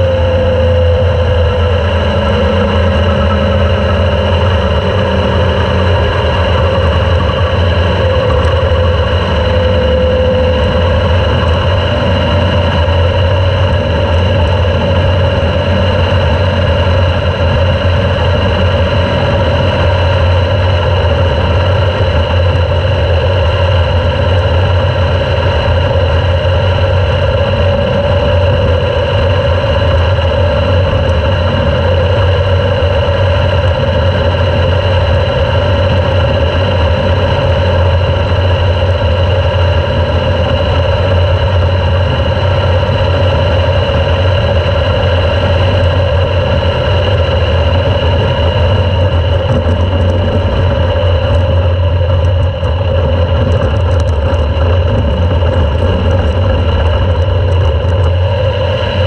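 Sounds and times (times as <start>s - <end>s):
race car engine running loudly: 0.0s - 59.0s.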